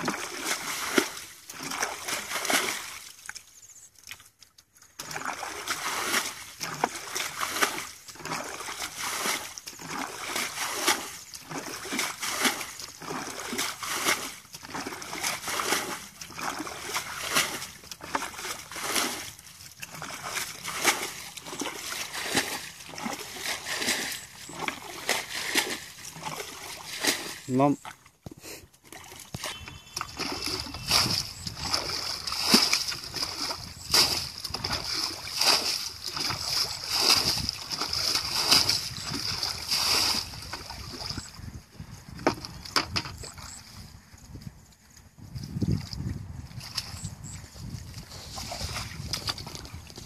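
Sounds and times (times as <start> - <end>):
water splashing from bucket: 0.0 - 28.1, 28.8 - 41.3, 47.9 - 50.0.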